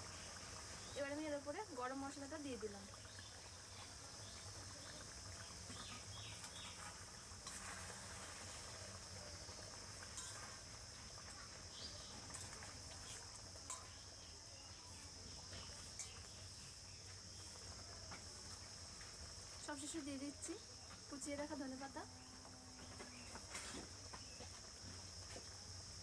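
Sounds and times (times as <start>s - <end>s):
high-pitched insect trill: 0.0s - 26.0s.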